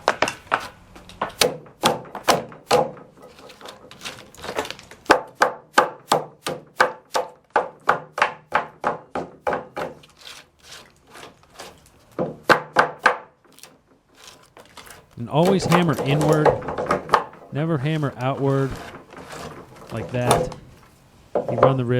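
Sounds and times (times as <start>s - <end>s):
hammer knocking out wooden tabs: 0.0s - 10.1s, 11.6s - 21.8s.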